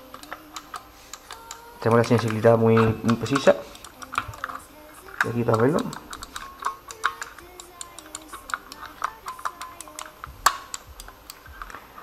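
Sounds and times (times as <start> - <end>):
microswitches clicking: 0.0 - 12.0.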